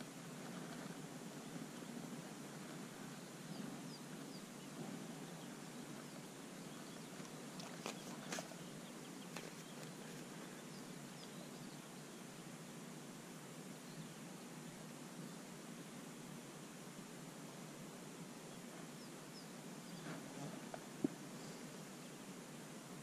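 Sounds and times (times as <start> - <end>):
steady low background hum: 0.0 - 23.0.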